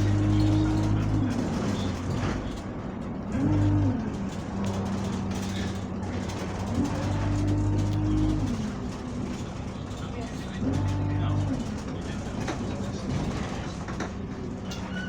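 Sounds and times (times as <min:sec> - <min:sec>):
bus diesel engine idling: 0:00.0 - 0:15.0.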